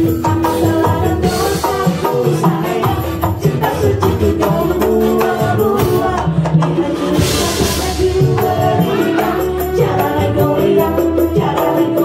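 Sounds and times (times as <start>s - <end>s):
hand drums: 0.0s - 12.0s
live band playing: 0.0s - 12.0s
person singing through microphone: 0.0s - 12.0s.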